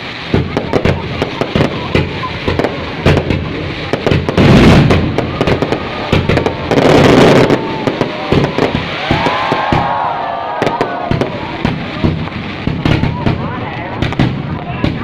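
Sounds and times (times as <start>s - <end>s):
fireworks bangs and crackles: 0.0s - 15.0s
fireworks booms: 0.0s - 15.0s.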